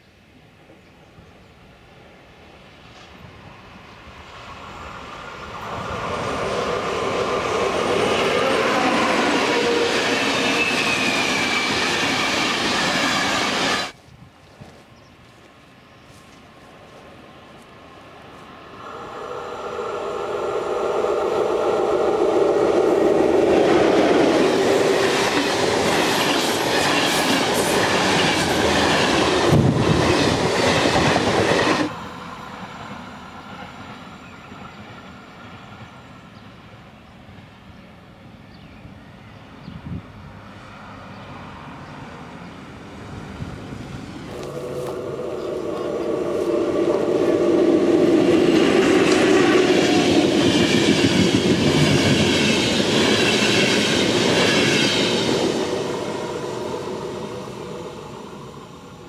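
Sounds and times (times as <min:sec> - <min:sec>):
electric locomotive approaching: 0:00.0 - 0:14.0, 0:15.5 - 0:59.0
train passing with whine: 0:00.0 - 0:14.0, 0:14.7 - 0:59.0
train rumbling away: 0:01.6 - 0:14.0, 0:16.0 - 0:59.0.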